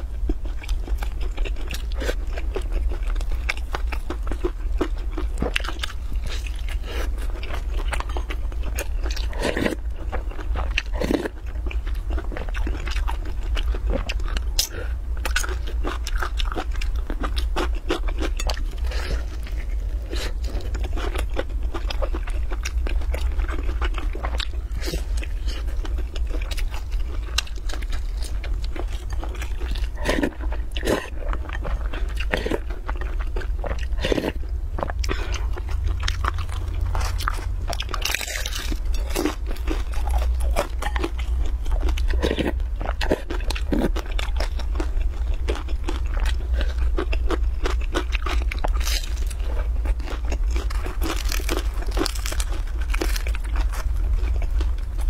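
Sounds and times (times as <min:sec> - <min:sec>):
chewing crisp pancake: 0:00.0 - 0:55.0
steady low hum: 0:00.0 - 0:55.0.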